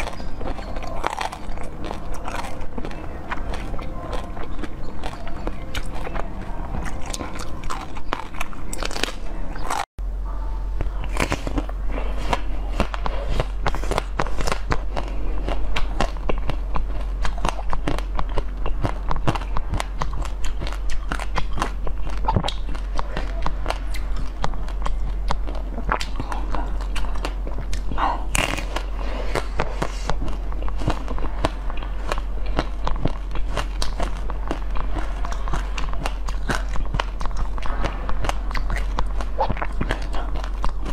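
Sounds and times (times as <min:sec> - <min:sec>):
crunching ice cream coating: 0:00.0 - 0:09.9, 0:10.8 - 0:40.9
steady low hum: 0:00.0 - 0:40.9.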